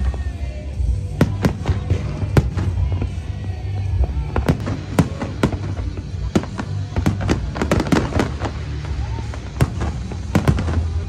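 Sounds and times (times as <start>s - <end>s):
fireworks bursting with sharp bangs: 0.0s - 11.0s
music with steady bass: 0.0s - 11.0s.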